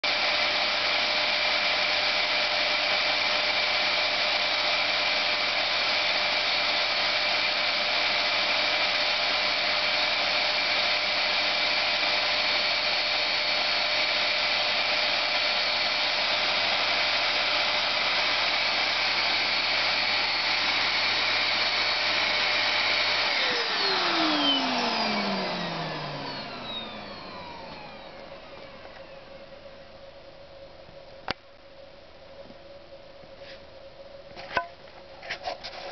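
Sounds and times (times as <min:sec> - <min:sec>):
vacuum motor winding down: 0:00.0 - 0:29.7
vacuum cleaner running: 0:00.0 - 0:30.2.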